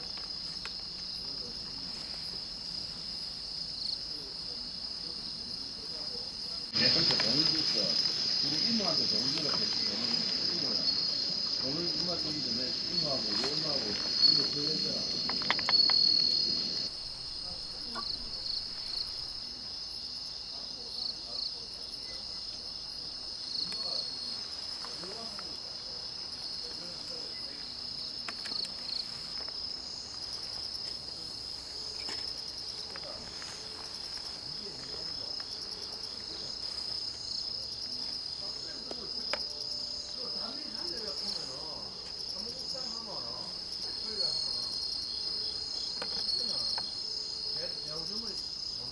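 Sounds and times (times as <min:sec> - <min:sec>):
crickets chirring: 0:00.0 - 0:48.9.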